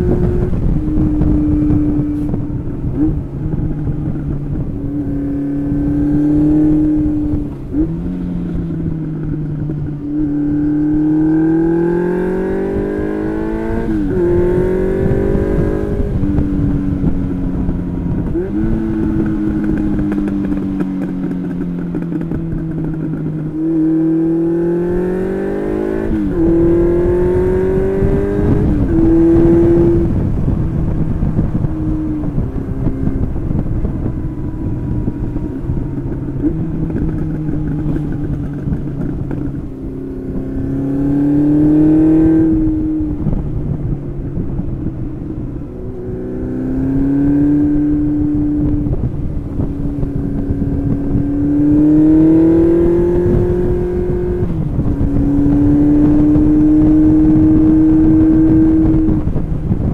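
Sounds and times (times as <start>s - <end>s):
motorcycle engine accelerating: 0.0s - 59.9s
wind rumble: 0.0s - 59.9s.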